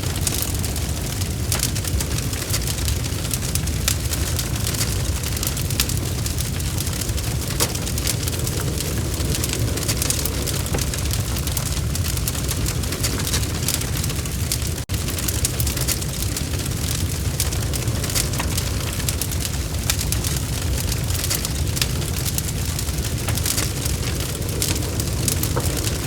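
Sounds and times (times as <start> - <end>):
fire crackling in a fireplace: 0.0 - 26.0.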